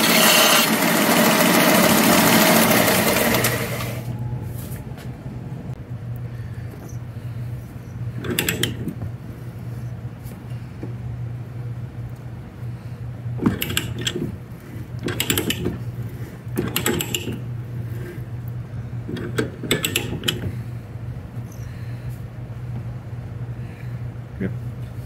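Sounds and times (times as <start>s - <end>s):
steady low hum: 3.8s - 25.0s.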